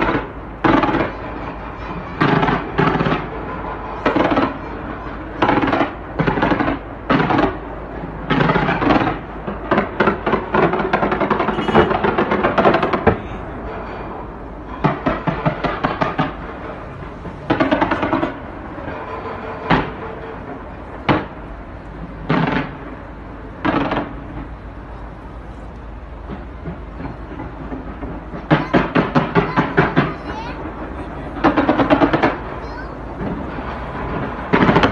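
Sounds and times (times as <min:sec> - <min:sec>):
fireworks crackling pops: 0:00.0 - 0:14.0, 0:14.7 - 0:34.9
fireworks sharp bangs: 0:00.0 - 0:34.9.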